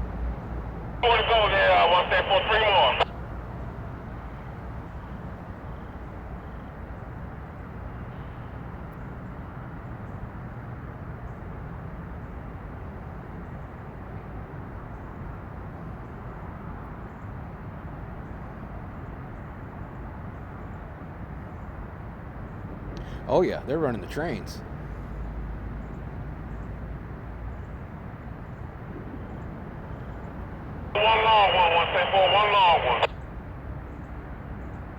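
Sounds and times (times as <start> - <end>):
continuous low rumble: 0.0 - 17.3, 22.4 - 34.9.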